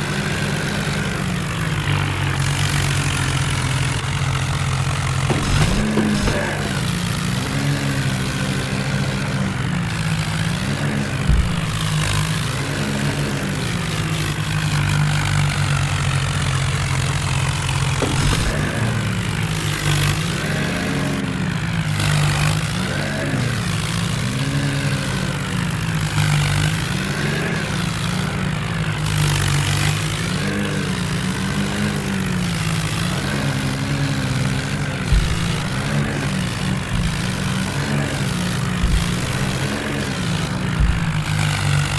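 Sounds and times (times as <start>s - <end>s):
tractor diesel engine straining: 0.0s - 41.9s.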